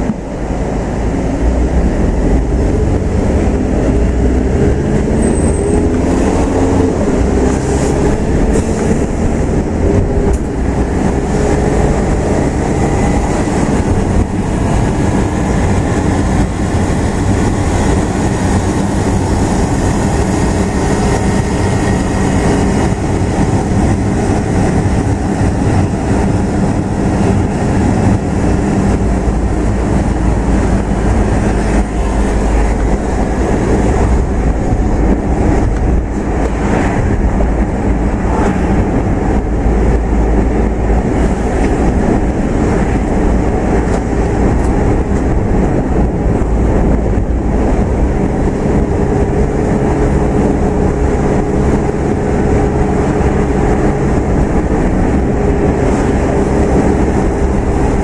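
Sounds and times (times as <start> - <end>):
vehicle engine and tyre rumble: 0.0 - 58.0.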